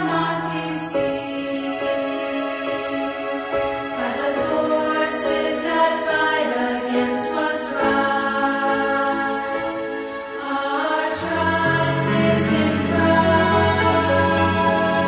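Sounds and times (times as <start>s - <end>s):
music with long held notes: 0.0s - 15.0s.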